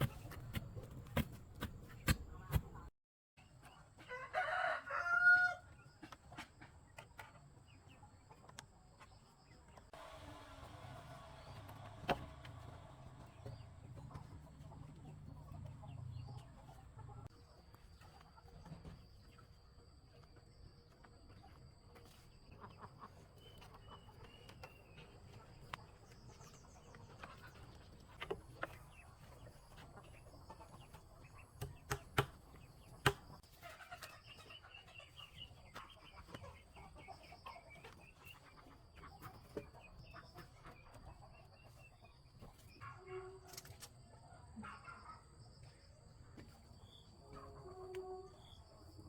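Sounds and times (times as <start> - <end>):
chickens clucking: 0.0 - 4.1, 5.7 - 49.0.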